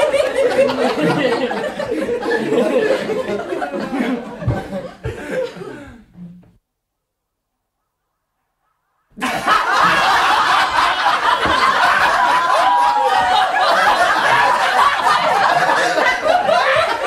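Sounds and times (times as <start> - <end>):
group of people laughing: 0.0 - 6.2, 9.2 - 17.0.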